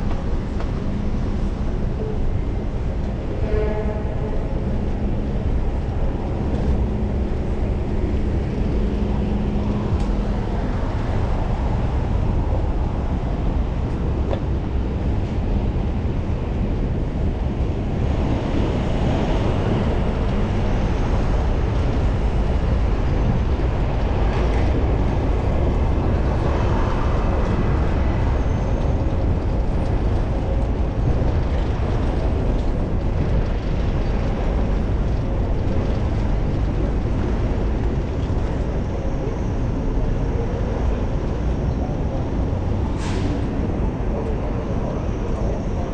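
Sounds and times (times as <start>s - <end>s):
bicycle road noise: 0.0s - 45.9s
traffic: 0.0s - 45.9s
wind rush: 0.0s - 45.9s.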